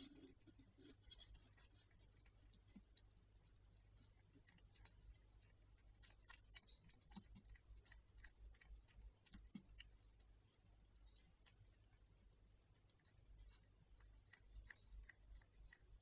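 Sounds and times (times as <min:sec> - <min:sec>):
cat licking kitten: 0:00.0 - 0:16.0.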